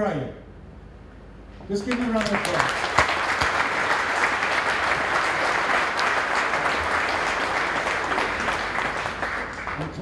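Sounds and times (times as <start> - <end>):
crowd applauding: 1.8 - 10.0.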